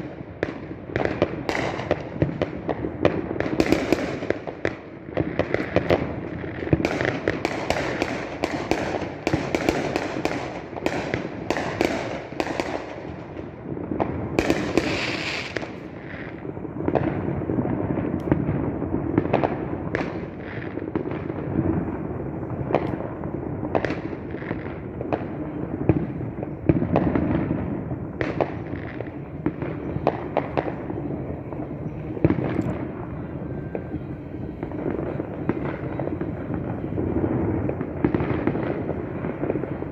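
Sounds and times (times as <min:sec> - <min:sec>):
fireworks cracking and banging: 0:00.0 - 0:39.9.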